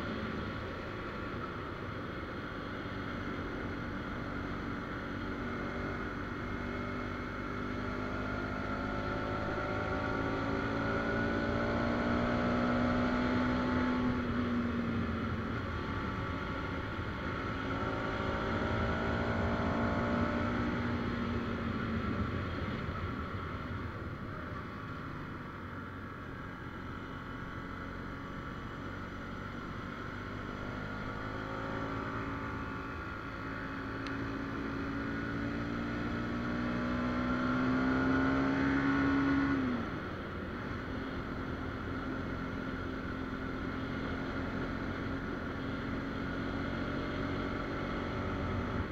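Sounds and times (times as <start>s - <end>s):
motorcycle engine revving: 2.7s - 23.6s, 26.6s - 48.9s.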